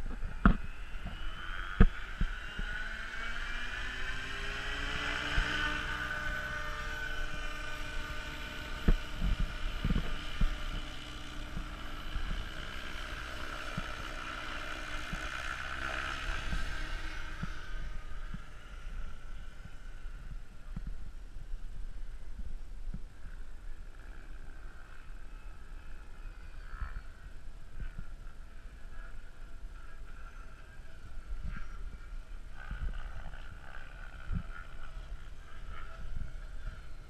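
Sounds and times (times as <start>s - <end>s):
model helicopter rotor whine: 0.0s - 37.0s.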